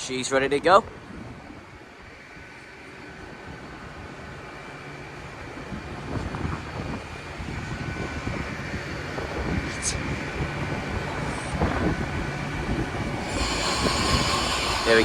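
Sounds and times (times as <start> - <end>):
diesel engines running: 0.0 - 15.0
steady whine: 0.9 - 15.0.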